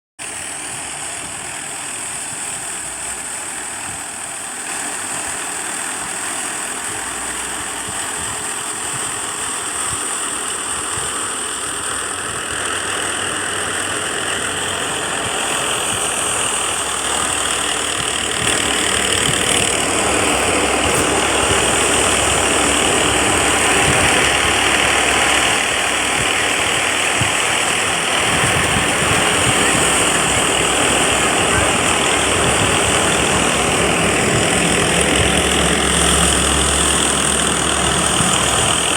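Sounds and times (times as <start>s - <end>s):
tractor and thresher din: 0.2s - 38.9s.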